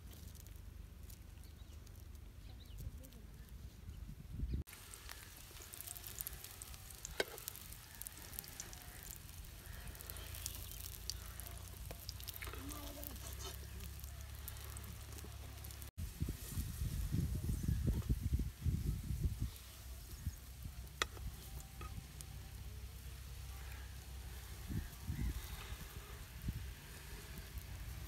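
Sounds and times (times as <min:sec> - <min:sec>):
egg sizzling in oil: 0:04.7 - 0:28.0.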